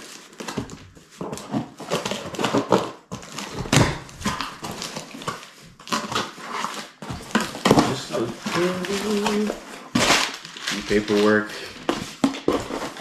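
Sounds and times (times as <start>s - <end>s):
cardboard scrapes rustles and knocks: 0.0s - 13.0s
packing tape tearing: 0.0s - 13.0s.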